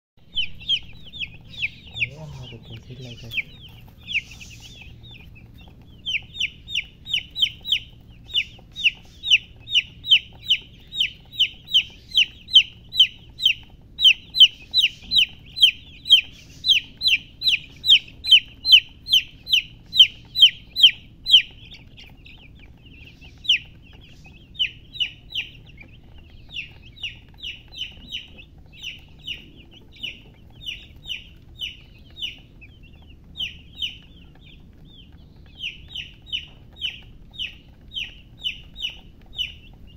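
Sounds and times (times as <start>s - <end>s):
baby chick peeping: 0.2s - 39.9s.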